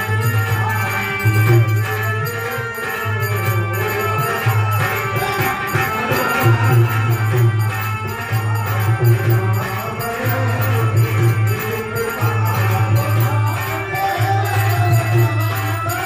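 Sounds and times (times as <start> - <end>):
dholak drumming: 0.0 - 16.0
jingling hand percussion: 0.0 - 16.0.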